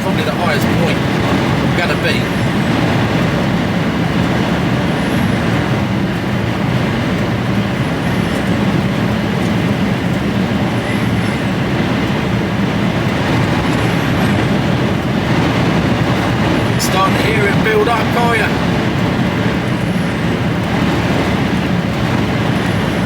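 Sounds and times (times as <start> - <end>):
diesel engine in lorry cab: 0.0 - 23.0
road noise: 0.0 - 23.0
storm wind against cab: 0.0 - 23.0.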